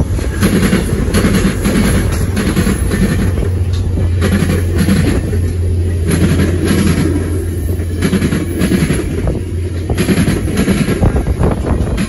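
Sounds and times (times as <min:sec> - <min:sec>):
train low rumble: 0:00.0 - 0:12.0
train wheels clacking on track: 0:00.0 - 0:12.0.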